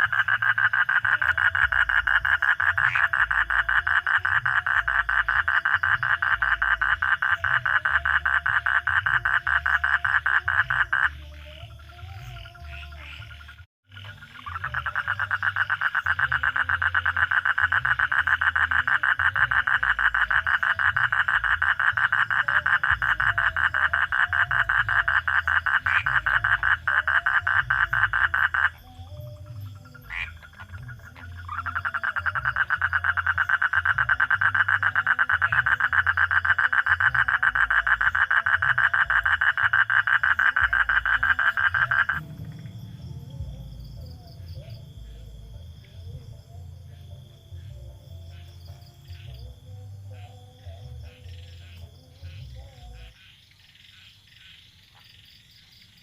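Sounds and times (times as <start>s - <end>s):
frog trilling: 0.0s - 56.0s.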